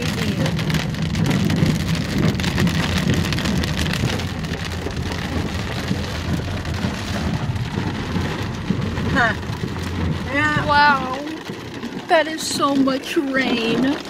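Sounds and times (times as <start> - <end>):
car road noise: 0.0 - 14.0
rain pattering on a car: 0.0 - 14.0.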